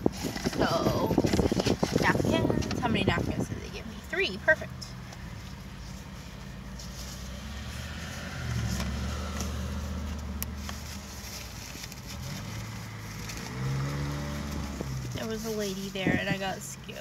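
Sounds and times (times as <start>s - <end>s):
paper rustling: 0.0s - 3.4s, 5.1s - 16.6s.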